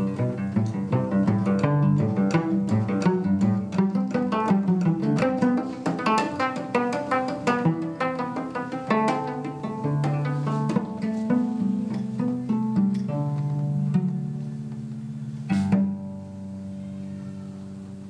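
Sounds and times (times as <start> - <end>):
cello plucked notes: 0.0 - 18.0.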